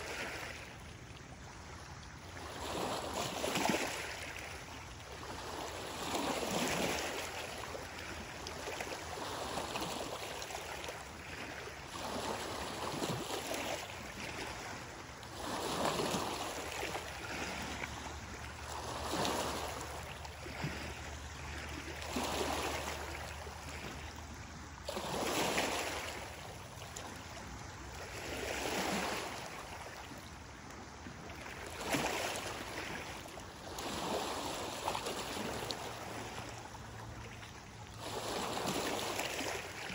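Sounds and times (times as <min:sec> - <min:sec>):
waves lapping on gravel shore: 0:00.0 - 0:39.9.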